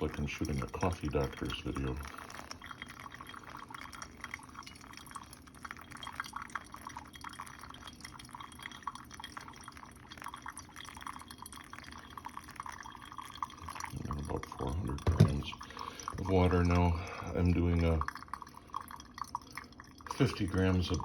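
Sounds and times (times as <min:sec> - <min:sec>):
water pouring onto coffee grounds: 0:00.0 - 0:21.0.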